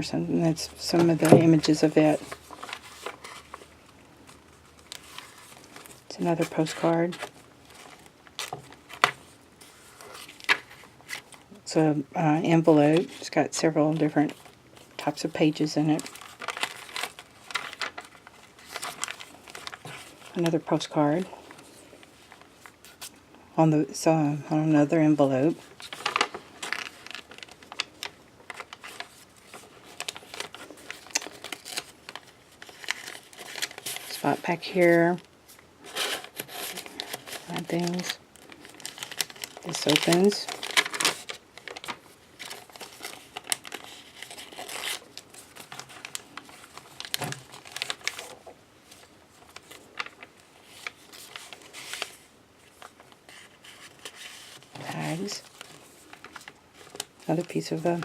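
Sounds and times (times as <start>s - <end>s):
paper pages turning and rustling: 0.6s - 11.5s, 12.7s - 20.6s, 25.5s - 58.0s.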